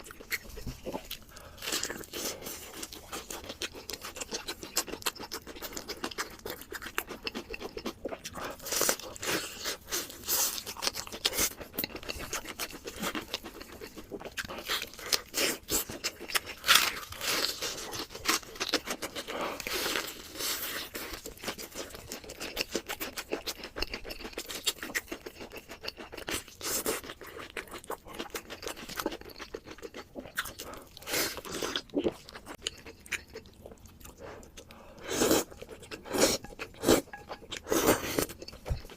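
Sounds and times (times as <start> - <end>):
person crunching food: 0.0 - 38.9.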